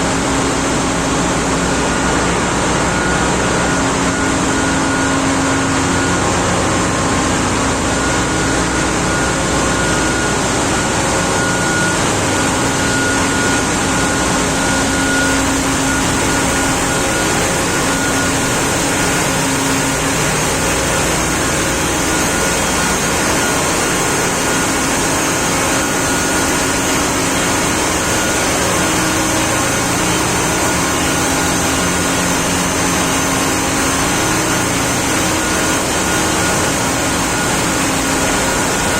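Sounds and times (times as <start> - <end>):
engine-room machinery din: 0.0 - 38.9.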